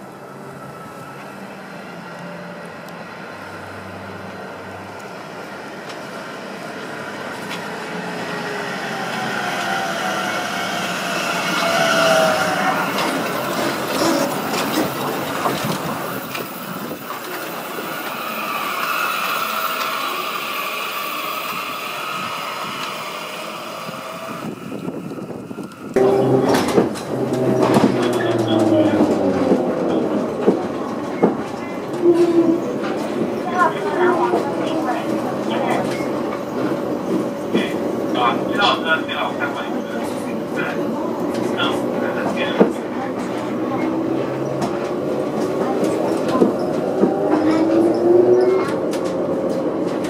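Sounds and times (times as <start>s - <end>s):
tram passing with gliding whine: 0.0s - 50.0s
tram clicks: 2.0s - 23.4s, 24.5s - 50.0s.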